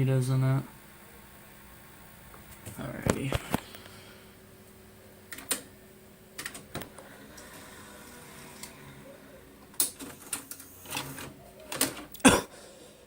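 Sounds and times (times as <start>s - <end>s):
faint machine hum: 0.0s - 13.0s.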